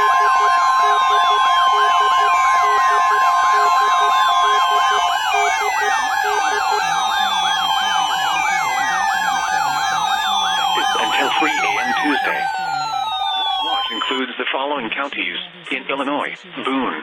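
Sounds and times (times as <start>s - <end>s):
falling siren wail: 0.0s - 14.2s
fast warbling siren yelp: 0.0s - 14.2s
pulsing low beep: 0.0s - 14.2s
steady high tone: 0.0s - 14.2s.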